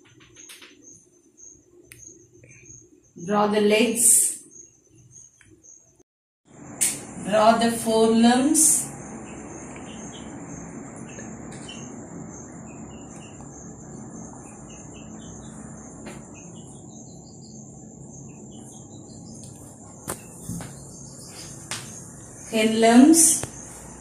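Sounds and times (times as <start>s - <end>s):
cricket trill and chirps: 0.0s - 24.0s.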